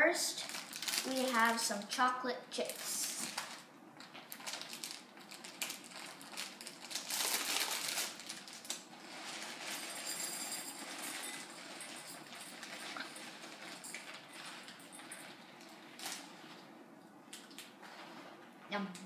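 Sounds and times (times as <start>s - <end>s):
plastic bag crinkling: 0.2s - 18.6s.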